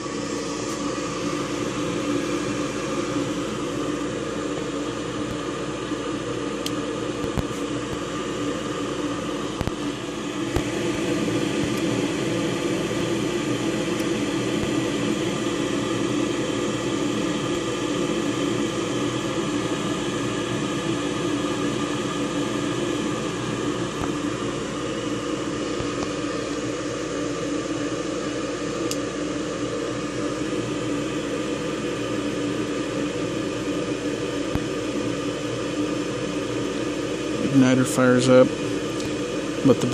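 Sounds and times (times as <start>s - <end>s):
furnace motor whirring hum: 0.0s - 39.9s.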